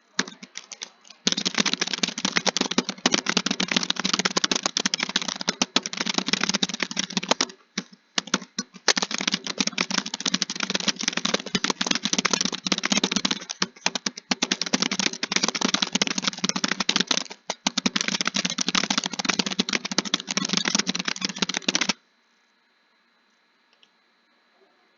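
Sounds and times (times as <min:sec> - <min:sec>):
fast typing on a keyboard: 0:00.0 - 0:22.0.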